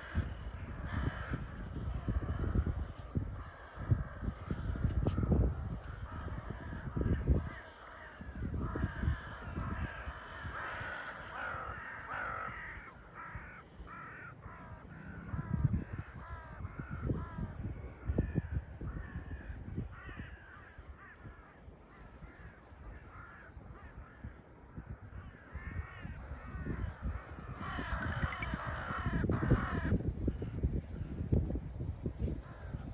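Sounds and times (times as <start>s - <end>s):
crows cawing: 0.0s - 30.4s, 32.2s - 32.9s.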